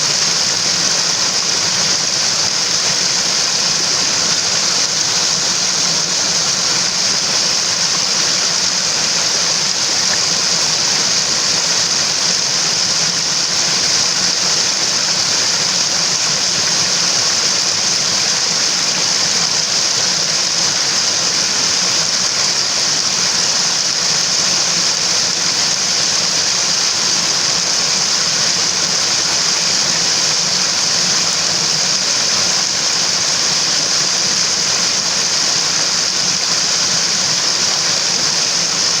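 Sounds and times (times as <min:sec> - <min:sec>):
water rushing over rocks: 0:00.0 - 0:39.0.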